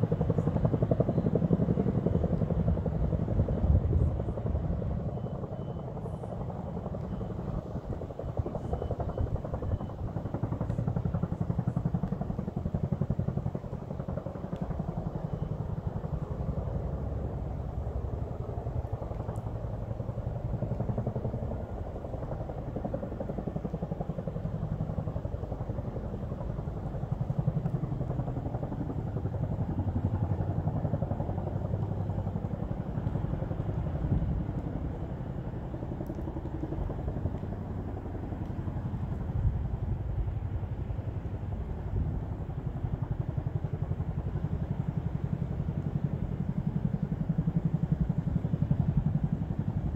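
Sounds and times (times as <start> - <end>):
helicopter rotors beating: 0.0 - 49.9.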